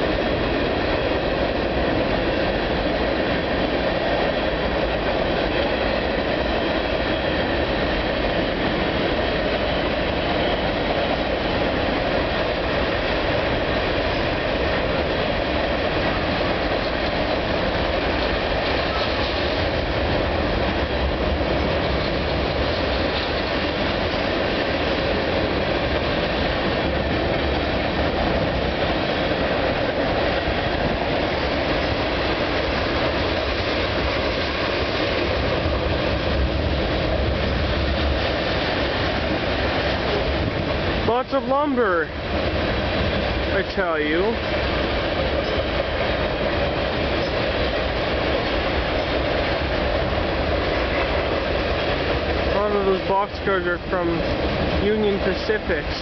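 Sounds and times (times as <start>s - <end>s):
freight train rolling over bridge: 0.0s - 56.0s.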